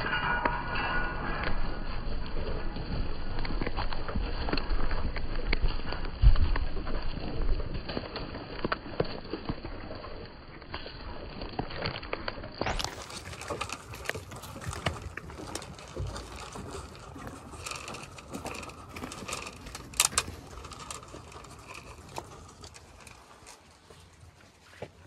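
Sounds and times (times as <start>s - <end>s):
sheep hooves on mud: 0.0s - 25.0s.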